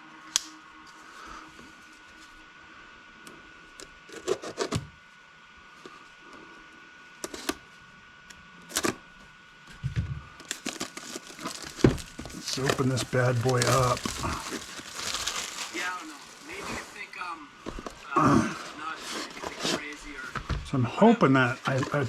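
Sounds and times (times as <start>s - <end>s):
faint steady high hum: 0.0s - 22.0s.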